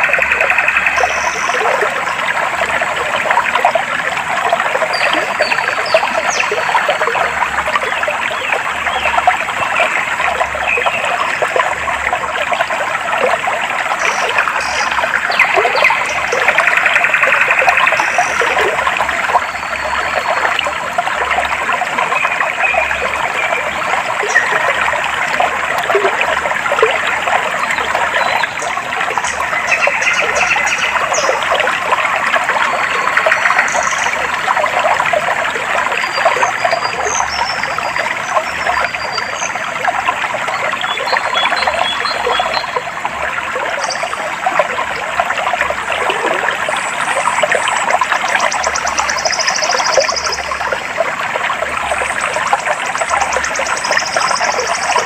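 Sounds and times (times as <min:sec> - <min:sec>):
water trickling and babbling: 0:00.0 - 0:55.0.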